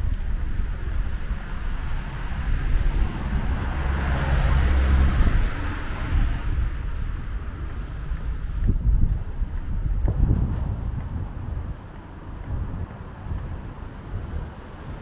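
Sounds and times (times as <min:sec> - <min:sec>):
passing car tyre noise: 0:00.0 - 0:15.0
wind rumble on microphone: 0:00.0 - 0:15.0.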